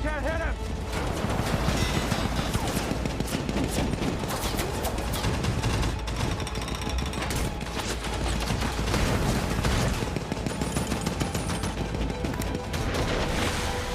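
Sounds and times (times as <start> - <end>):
rapid ship gunfire: 0.7 - 13.4.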